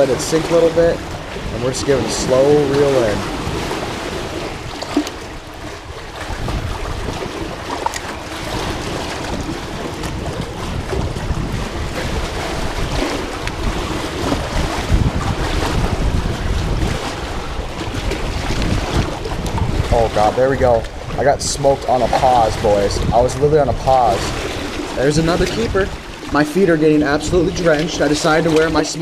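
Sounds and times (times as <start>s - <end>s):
water rushing around legs: 0.0s - 29.0s
wind buffeting microphone: 0.0s - 29.0s.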